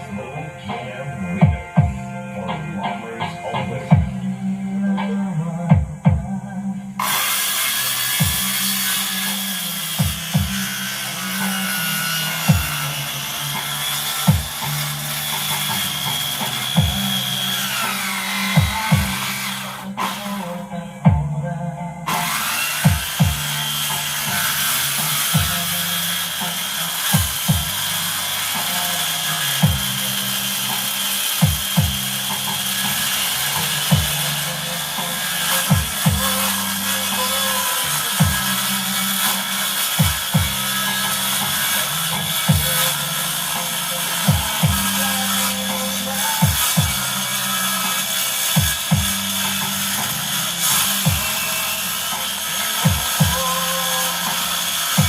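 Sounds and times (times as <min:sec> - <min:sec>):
bass-heavy music through subwoofer: 0:00.0 - 0:55.0.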